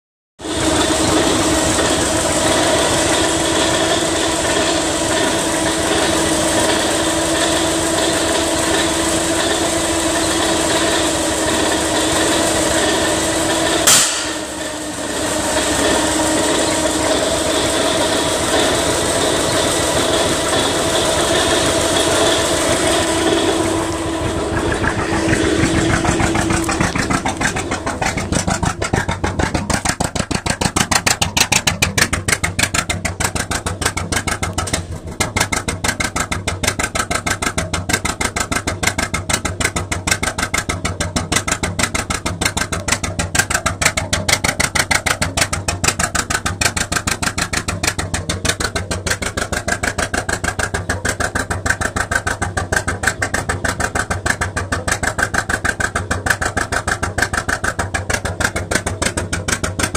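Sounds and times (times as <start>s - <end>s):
engine running with rapid beat: 0.4s - 59.9s.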